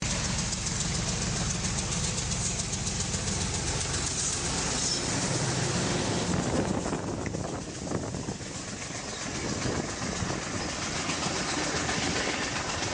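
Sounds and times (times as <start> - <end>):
train running: 0.0 - 12.9.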